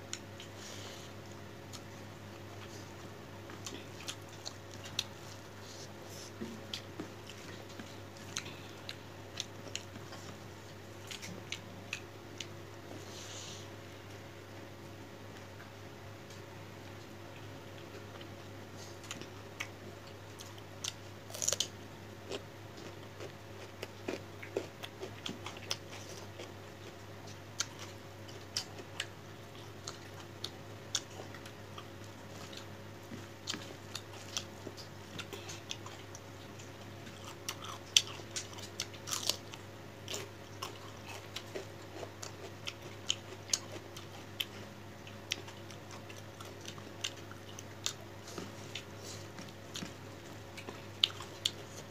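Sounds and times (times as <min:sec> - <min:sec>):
person chewing: 0:00.0 - 0:13.4, 0:17.8 - 0:51.9
steady low hum: 0:00.0 - 0:51.9.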